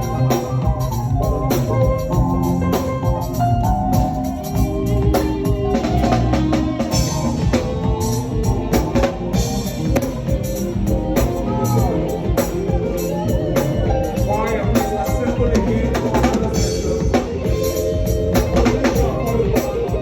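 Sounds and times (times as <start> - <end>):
drum kit beat: 0.0 - 20.0
keyboard chords: 0.0 - 20.0.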